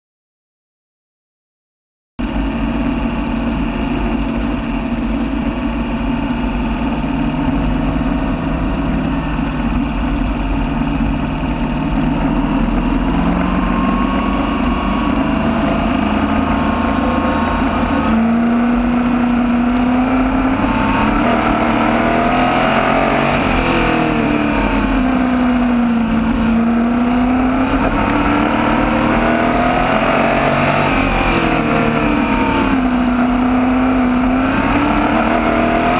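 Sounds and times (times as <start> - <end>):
race car engine revving: 2.2 - 35.9.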